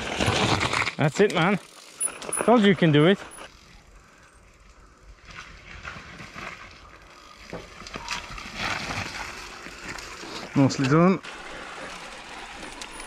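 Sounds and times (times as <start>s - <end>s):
bike clicking and rattling: 0.0s - 13.0s
bike tyres rolling on dirt: 0.0s - 13.0s.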